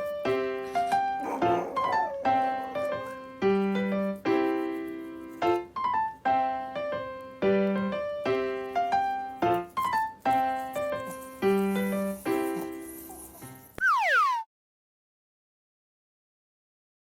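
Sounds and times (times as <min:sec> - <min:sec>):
piano melody: 0:00.0 - 0:13.8.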